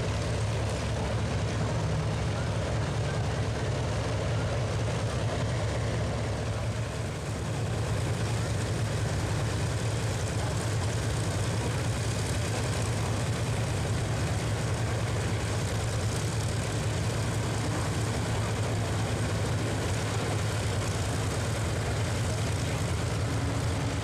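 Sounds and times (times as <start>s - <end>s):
aircraft engine idling: 0.0s - 24.0s.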